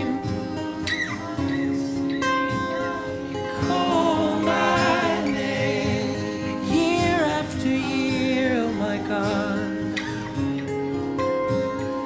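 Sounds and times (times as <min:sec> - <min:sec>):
person singing: 0:00.0 - 0:10.4
acoustic guitar: 0:00.0 - 0:12.0.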